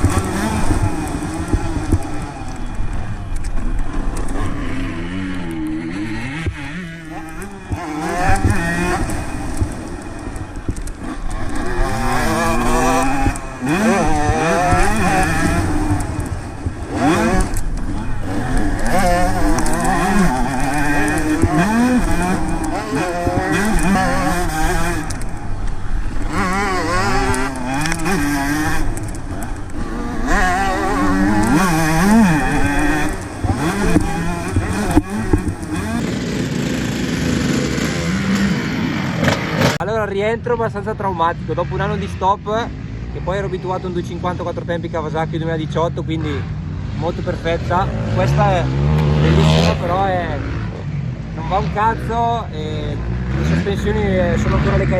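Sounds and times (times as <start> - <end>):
motocross engine revving hard: 0.0 - 3.2, 3.8 - 39.8, 46.2 - 54.9.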